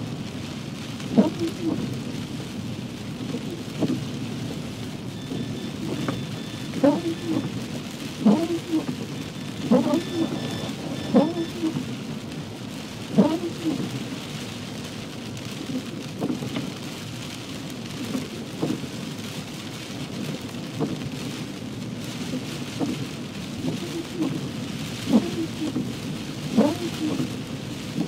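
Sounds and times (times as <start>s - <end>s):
heavy rain on a car: 0.0s - 28.0s.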